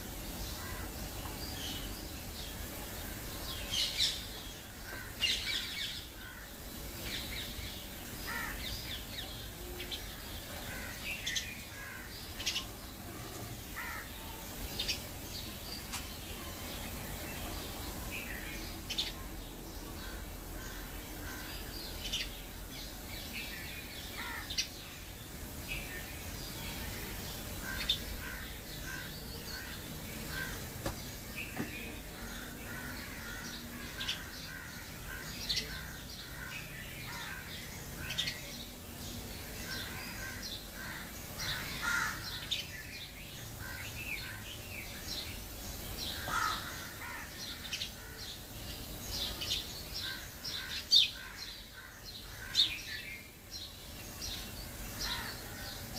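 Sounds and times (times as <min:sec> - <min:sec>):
birds chirping: 0:00.0 - 0:55.9
low background noise: 0:00.0 - 0:55.9.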